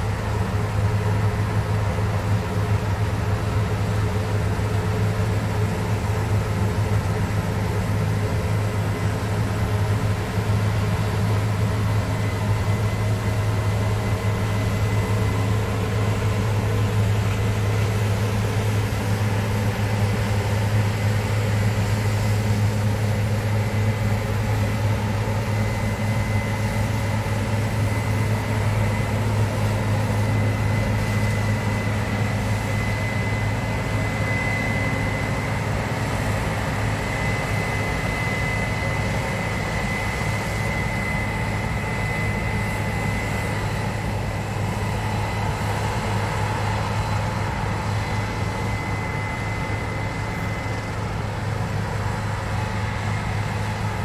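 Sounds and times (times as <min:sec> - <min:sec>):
combine harvester engine hum: 0:00.0 - 0:54.0.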